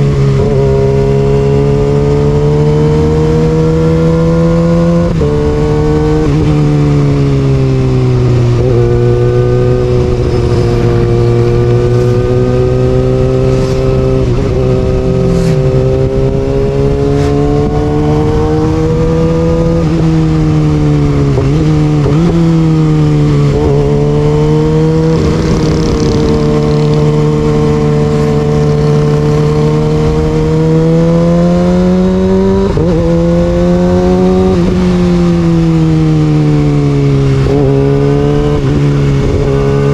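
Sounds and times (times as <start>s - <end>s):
motorcycle engine at mid revs: 0.0s - 39.9s.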